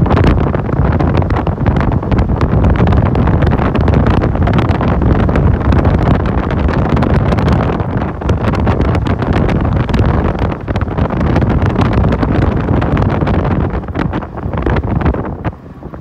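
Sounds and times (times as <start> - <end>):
motorcycle engine rumble: 0.0 - 16.0
tyres on bumpy road: 0.0 - 16.0
wind buffeting microphone: 0.0 - 16.0.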